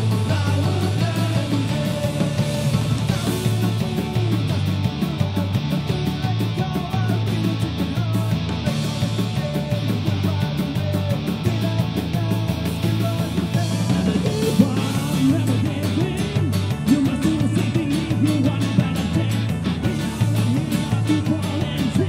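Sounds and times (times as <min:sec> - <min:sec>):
bass guitar: 0:00.0 - 0:22.0
drums: 0:00.0 - 0:22.0
electric guitar: 0:00.0 - 0:22.0
man singing: 0:00.0 - 0:22.0.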